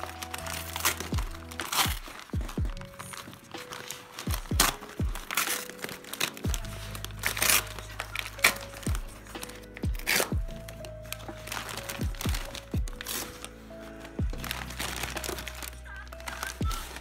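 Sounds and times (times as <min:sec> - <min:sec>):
background music with deep beat: 0:00.0 - 0:17.0
paper packaging crinkling: 0:00.0 - 0:17.0
paper tearing: 0:00.0 - 0:17.0.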